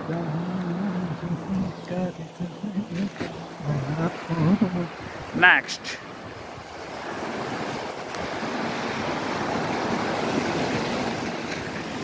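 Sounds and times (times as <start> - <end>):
waves breaking on sand: 0.0 - 12.0.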